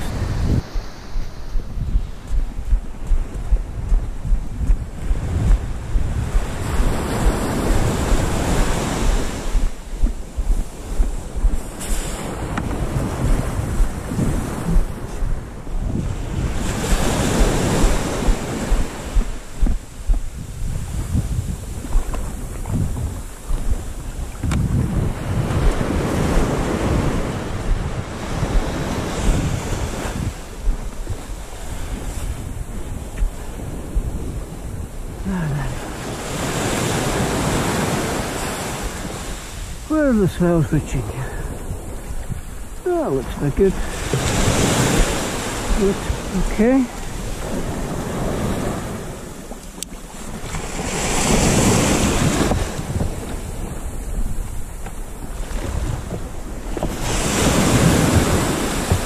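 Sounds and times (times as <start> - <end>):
sea waves washing: 0.0 - 59.0
wind buffeting microphone: 0.0 - 59.0.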